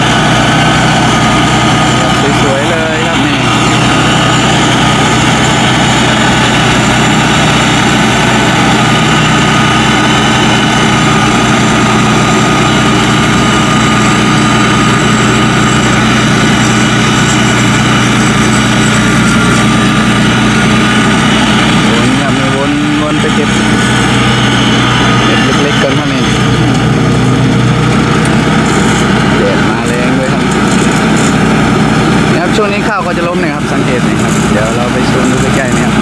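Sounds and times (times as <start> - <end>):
combine harvester engine drone: 0.0 - 36.0
steady high whine: 0.0 - 36.0.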